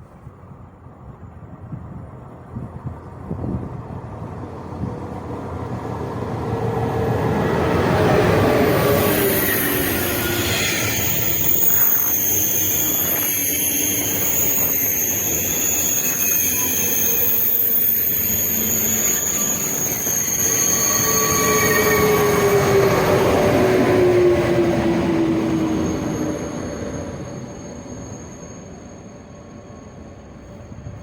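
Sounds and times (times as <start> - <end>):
train high-pitched whine: 3.6 - 31.0.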